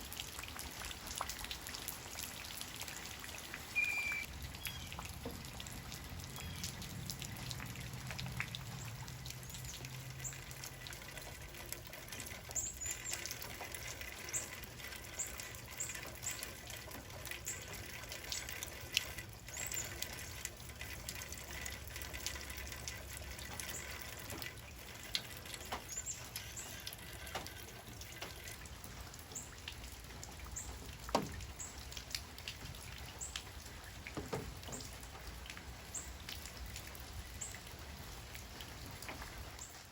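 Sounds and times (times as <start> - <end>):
rain falling: 0.0 - 39.9
raindrops ticking close by: 0.0 - 39.9.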